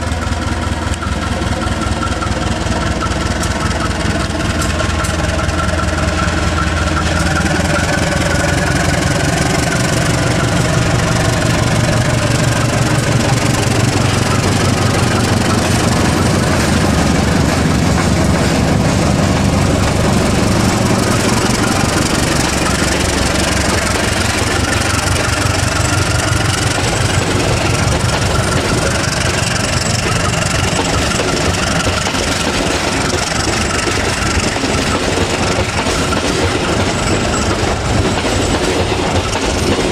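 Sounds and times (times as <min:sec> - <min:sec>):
locomotive engine passing: 0:00.0 - 0:39.9
train coaches rolling past: 0:00.0 - 0:39.9.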